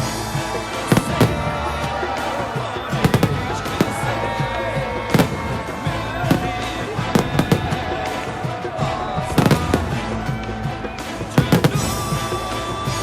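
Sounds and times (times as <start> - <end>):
background music with held notes: 0.0 - 13.0
fireworks bangs: 0.0 - 13.0.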